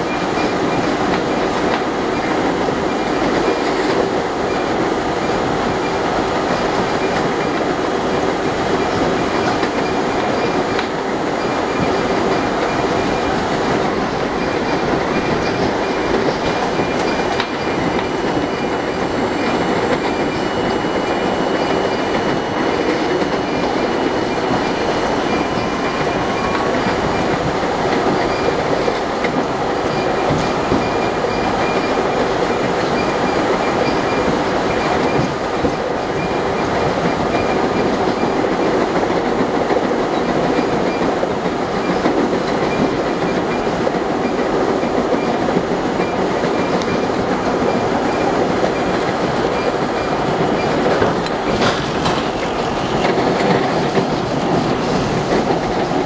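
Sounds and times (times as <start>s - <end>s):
subway car wheels rumbling on rail: 0.0s - 56.0s.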